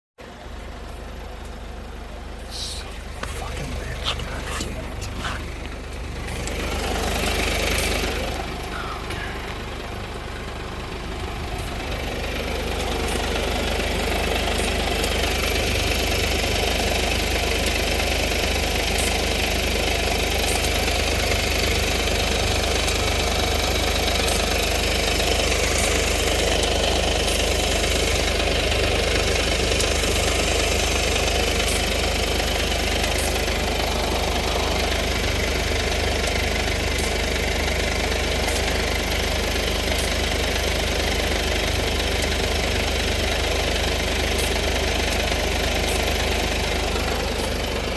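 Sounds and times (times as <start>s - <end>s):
car engine idling with leaking exhaust: 0.2s - 47.9s.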